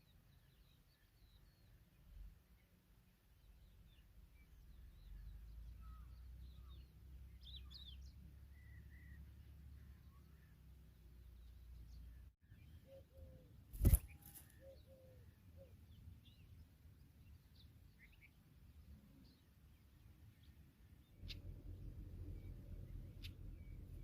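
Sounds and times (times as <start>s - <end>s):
bird chirps: 3.4s - 16.6s, 17.2s - 19.5s, 20.3s - 24.0s.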